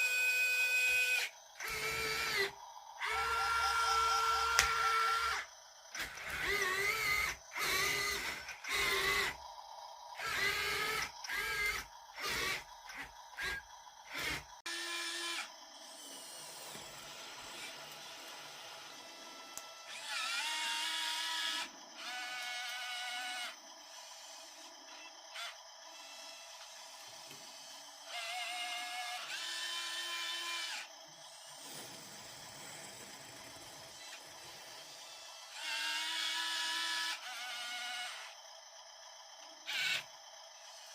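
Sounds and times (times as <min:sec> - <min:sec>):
small electric motors whining: 0:00.0 - 0:40.9.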